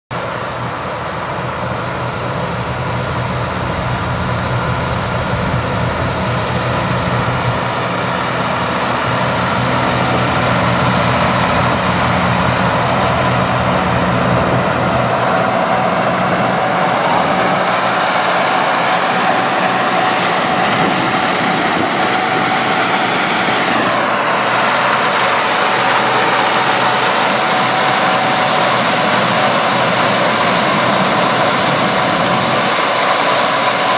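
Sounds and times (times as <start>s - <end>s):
combine harvester engine drone: 0.1s - 33.9s
high machinery whine: 0.1s - 33.9s.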